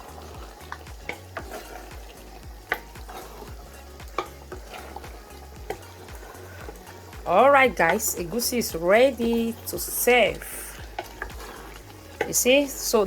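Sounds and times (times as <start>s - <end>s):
spoon stirring soup: 0.0s - 13.0s.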